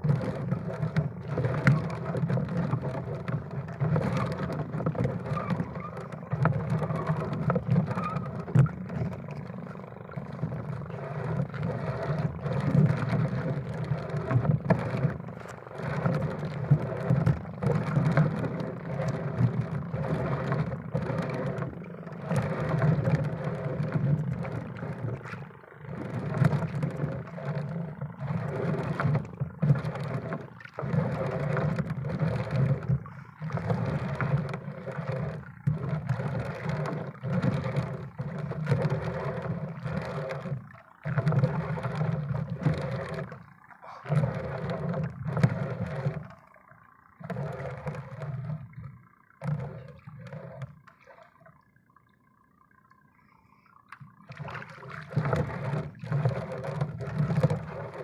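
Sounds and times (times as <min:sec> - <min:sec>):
small boat engine droning: 0:00.0 - 0:58.0.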